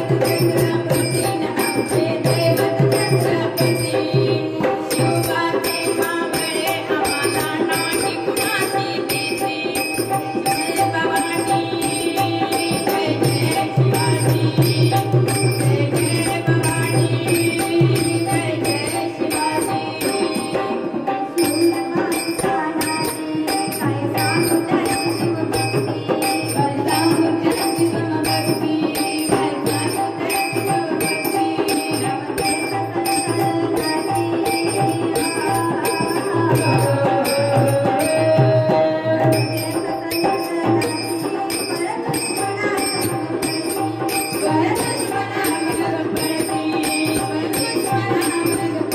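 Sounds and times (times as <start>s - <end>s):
jingling metal percussion: 0.0s - 48.9s.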